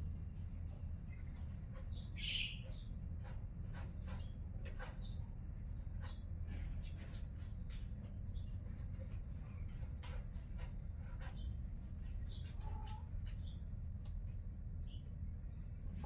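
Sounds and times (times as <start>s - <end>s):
low background rumble: 0.0s - 16.0s
birds chirping: 0.7s - 15.8s.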